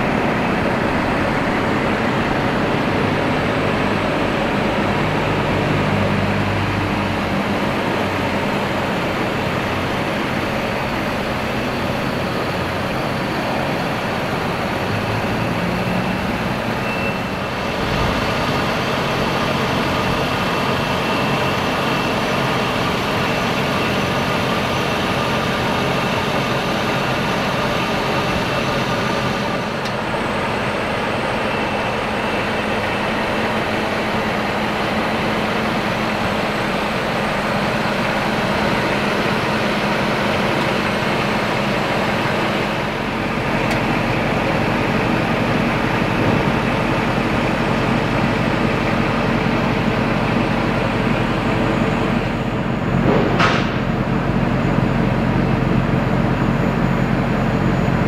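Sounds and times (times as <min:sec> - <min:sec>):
vehicle rumble: 0:00.0 - 0:58.0.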